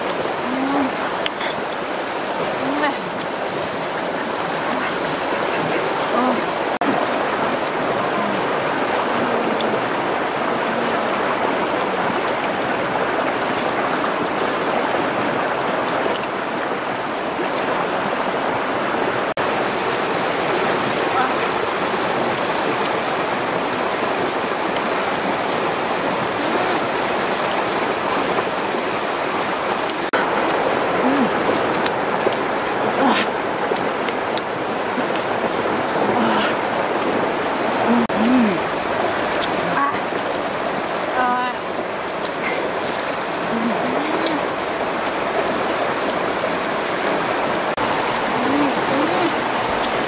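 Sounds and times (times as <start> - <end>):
river flowing over rocks: 0.0 - 50.0.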